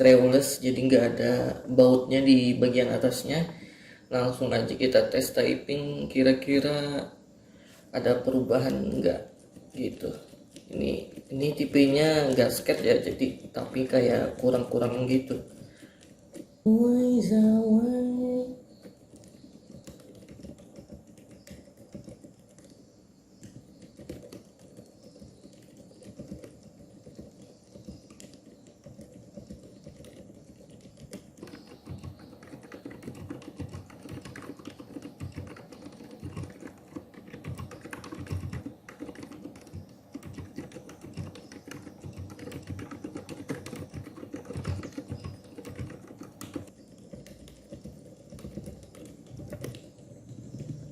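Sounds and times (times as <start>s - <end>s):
mechanical keyboard typing: 8.0s - 16.6s, 18.7s - 50.9s.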